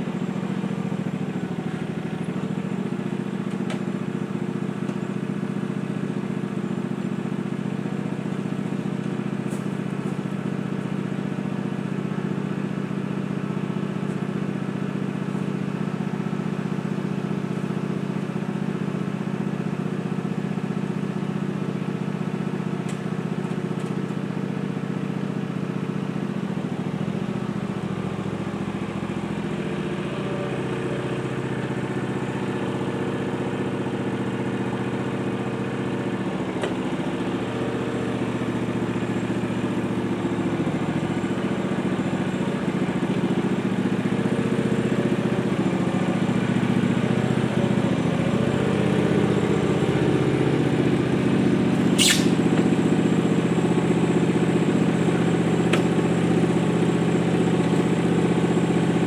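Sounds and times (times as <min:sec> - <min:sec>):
riding lawn mower engine running: 0:00.0 - 0:59.0.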